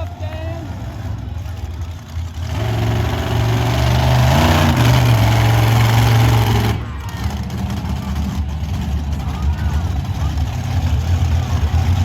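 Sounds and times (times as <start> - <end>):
monster truck engine revving: 0.1 - 12.0.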